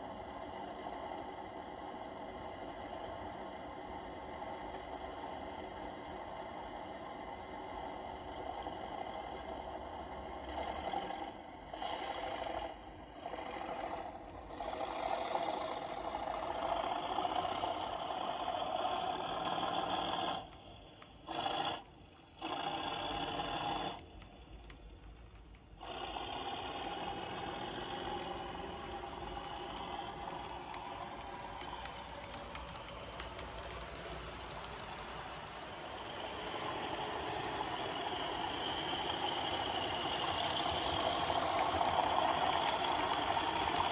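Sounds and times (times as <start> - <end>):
model train whirring on track: 0.0 - 43.9.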